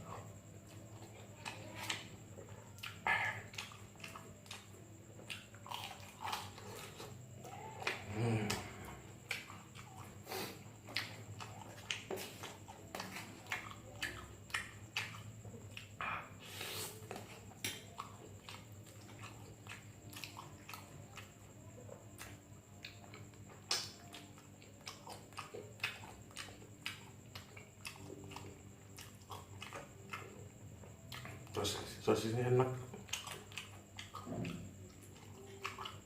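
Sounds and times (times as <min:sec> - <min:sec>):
faint steady hum: 0:00.0 - 0:36.0
person chewing: 0:00.1 - 0:31.6, 0:32.8 - 0:36.0.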